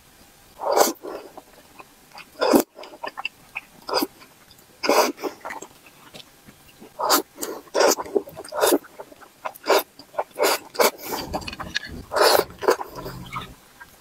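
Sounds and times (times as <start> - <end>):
wet chewing clicks: 0.7 - 13.6.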